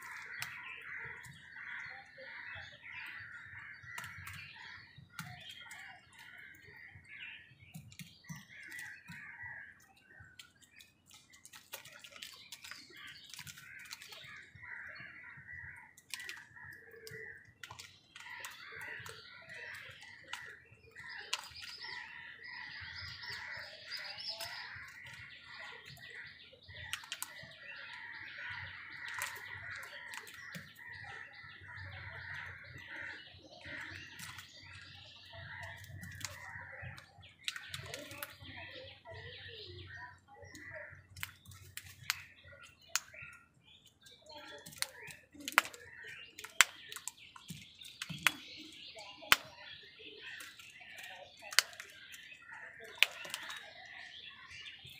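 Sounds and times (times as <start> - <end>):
birds chirping: 0.0 - 54.9
crows pecking at plastic bowl: 0.0 - 54.9.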